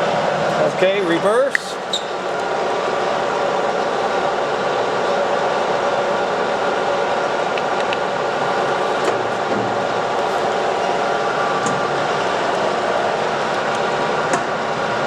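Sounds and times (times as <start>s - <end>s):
lathe gearing whine: 0.0s - 15.0s.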